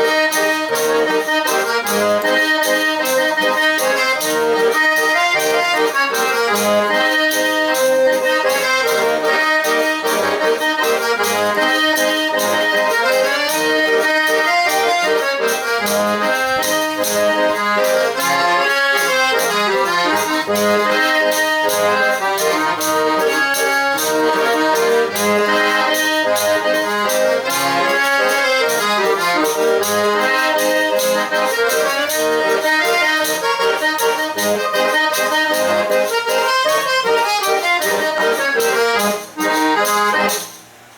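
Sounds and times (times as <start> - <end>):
button accordion dance tune: 0.0 - 40.9.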